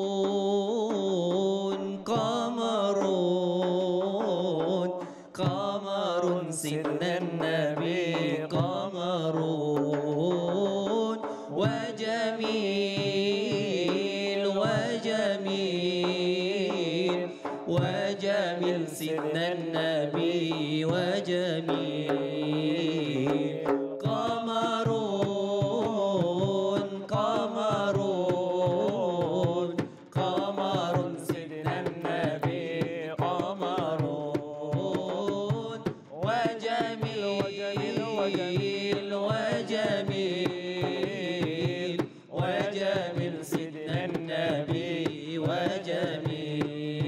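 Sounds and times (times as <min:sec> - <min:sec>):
man singing devotional melody: 0:00.0 - 0:47.0
frame drum beating: 0:00.2 - 0:47.0.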